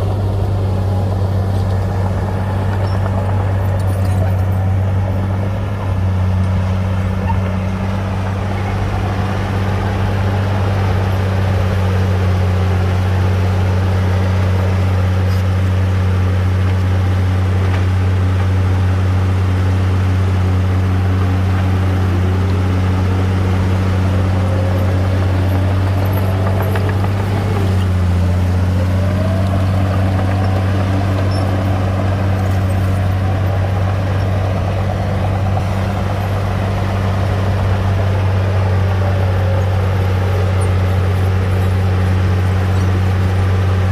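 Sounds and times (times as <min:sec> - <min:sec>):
bulldozer diesel engine droning: 0:00.0 - 0:43.9.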